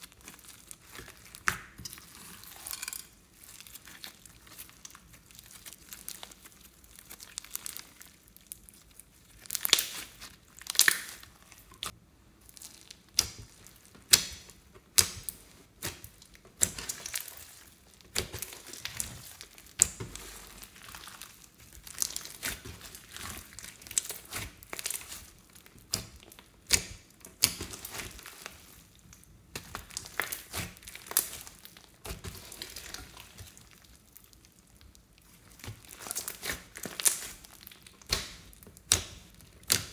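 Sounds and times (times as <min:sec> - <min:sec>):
foam beads crackling and popping: 0:00.0 - 0:39.9
slime squishing: 0:00.0 - 0:39.9.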